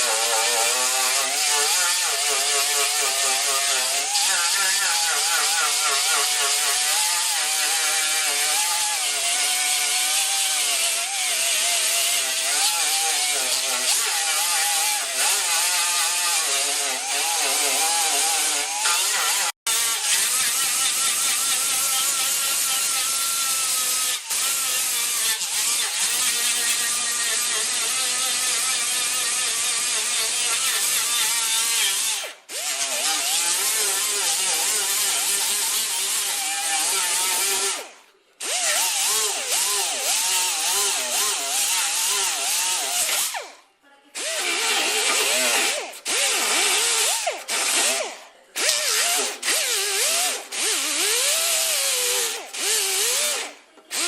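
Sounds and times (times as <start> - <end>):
power tool running: 0.0 - 43.5, 44.2 - 54.0.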